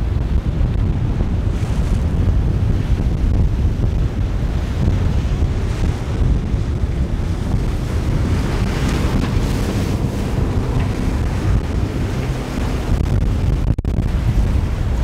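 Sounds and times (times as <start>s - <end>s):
motor boat running: 0.0s - 15.0s
rush of water and spray: 0.0s - 15.0s
surf and breaking waves: 0.0s - 15.0s
wind buffeting microphone: 0.0s - 15.0s.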